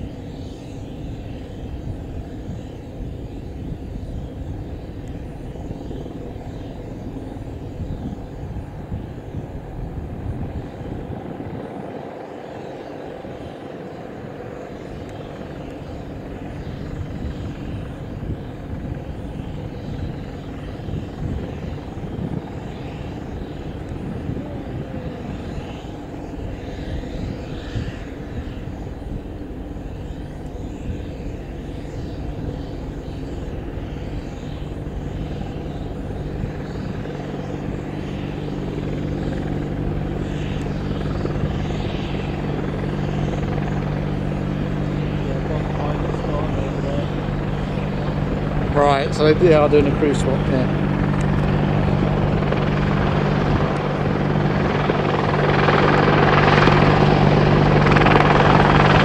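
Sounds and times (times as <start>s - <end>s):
helicopter hovering: 0.0s - 59.0s
steady low hum: 0.0s - 59.0s.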